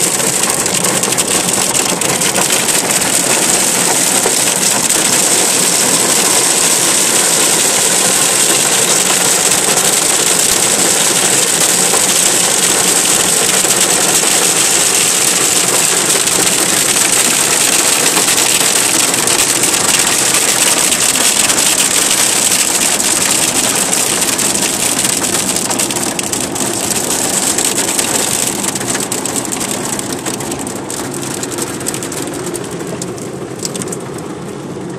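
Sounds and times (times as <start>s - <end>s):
hail and rain on car roof: 0.0s - 34.9s.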